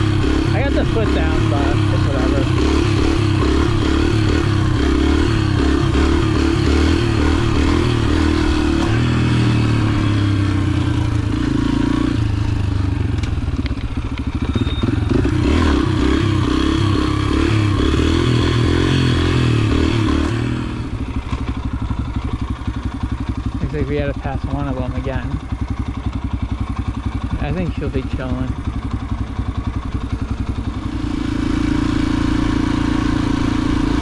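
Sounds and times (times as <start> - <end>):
motorcycle engine revving through gears: 0.0 - 34.0.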